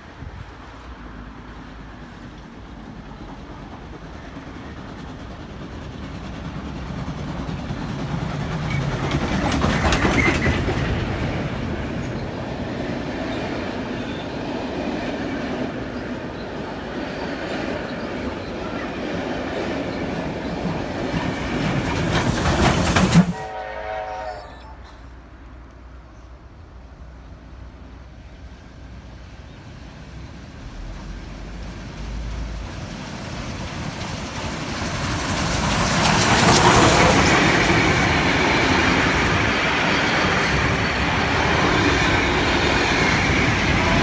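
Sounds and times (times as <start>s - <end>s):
steam train rumble: 0.0s - 44.0s.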